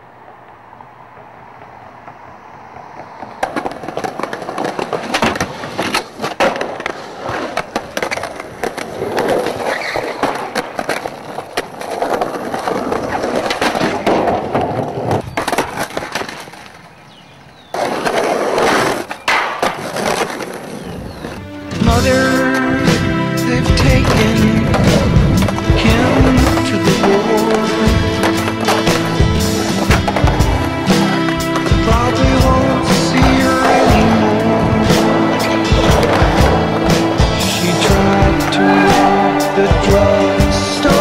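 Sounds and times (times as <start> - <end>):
skateboard wheels on concrete: 0.0 - 41.0
skateboard clacking on ground: 1.1 - 21.5, 23.6 - 41.0.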